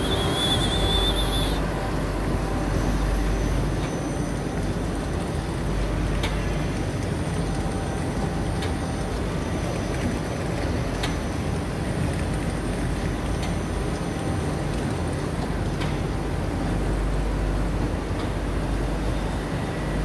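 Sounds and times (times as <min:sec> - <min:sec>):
printing machine rumble: 0:00.0 - 0:20.0.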